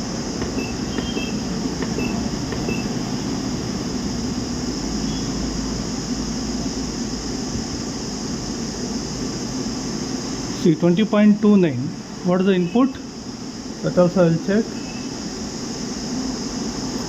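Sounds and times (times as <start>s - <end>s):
ventilation machinery hum: 0.0s - 17.0s.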